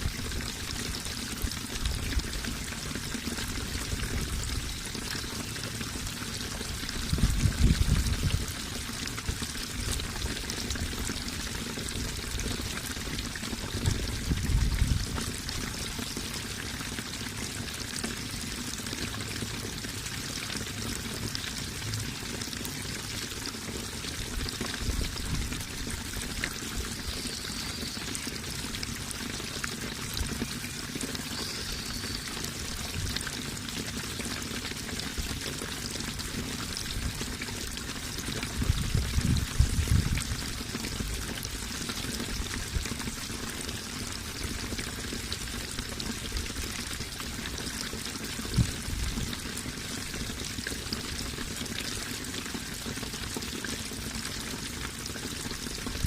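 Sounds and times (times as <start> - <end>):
water pouring: 0.0 - 56.0.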